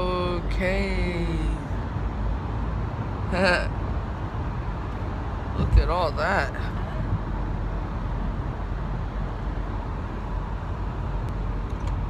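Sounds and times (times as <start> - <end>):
car road noise in tunnel: 0.0 - 12.0.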